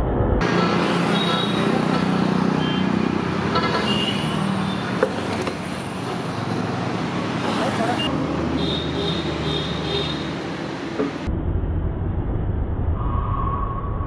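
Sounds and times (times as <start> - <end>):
low engine drone: 0.0 - 14.0
passing vehicles hum: 0.4 - 14.0.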